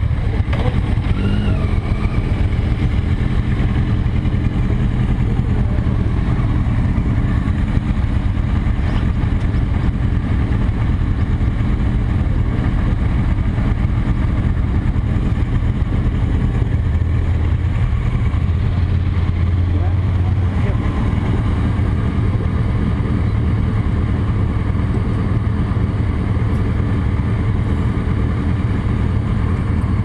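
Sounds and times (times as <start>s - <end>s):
deeper engine note: 0.0s - 30.0s
motorcycle engines idling: 0.0s - 30.0s.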